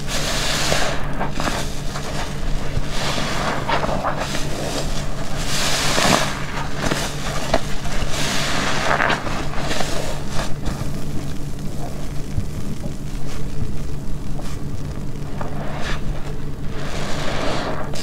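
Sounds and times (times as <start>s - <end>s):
sponge squelching: 0.0s - 13.6s, 14.3s - 18.0s.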